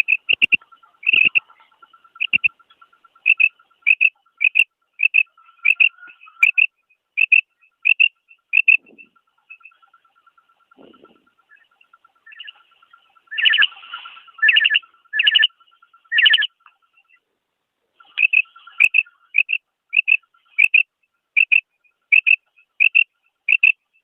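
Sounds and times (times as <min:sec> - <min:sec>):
quail calling: 0:00.0 - 0:17.2, 0:18.0 - 0:24.0.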